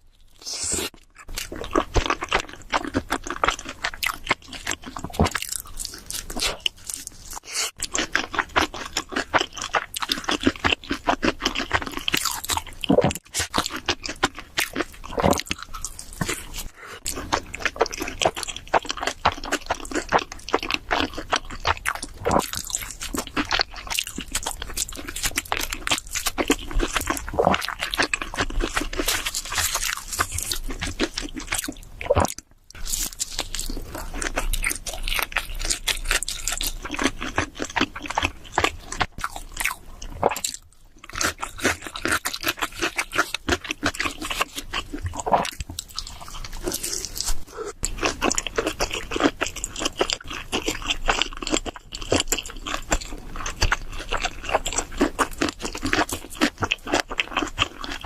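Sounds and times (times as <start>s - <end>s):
biting and chewing pizza: 0.0s - 58.0s.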